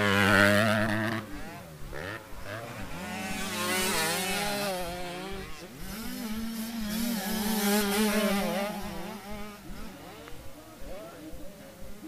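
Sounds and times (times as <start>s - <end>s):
motocross bikes engines revving: 0.0s - 12.0s.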